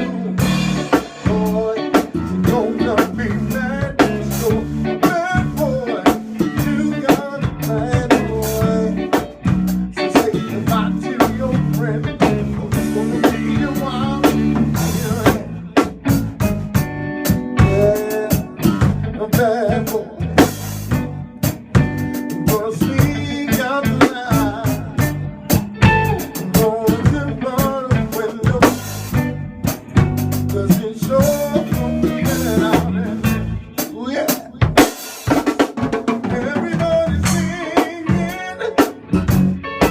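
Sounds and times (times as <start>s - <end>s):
voice or lead instrument: 0.0s - 21.2s, 22.2s - 29.5s, 36.2s - 39.9s
band playing music: 0.0s - 39.9s.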